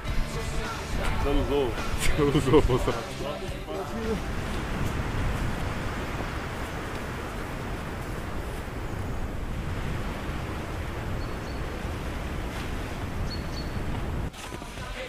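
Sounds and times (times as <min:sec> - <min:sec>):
wind through trees: 0:00.2 - 0:15.0
wind buffeting microphone: 0:00.8 - 0:14.4.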